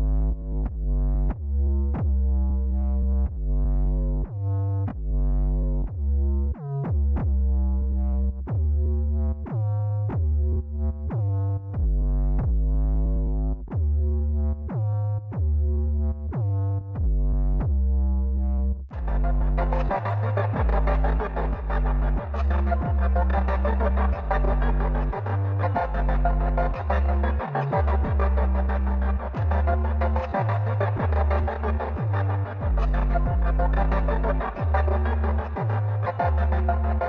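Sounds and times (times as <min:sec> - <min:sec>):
deep sustained bass: 0:00.0 - 0:37.0.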